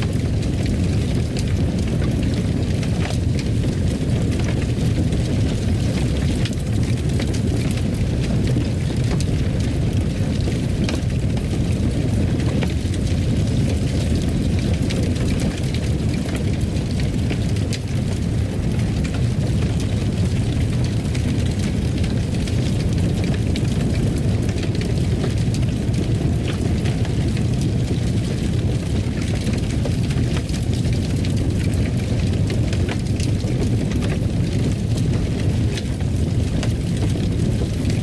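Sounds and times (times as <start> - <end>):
fire crackling and popping: 0.0 - 38.0
fire roaring: 0.0 - 38.0.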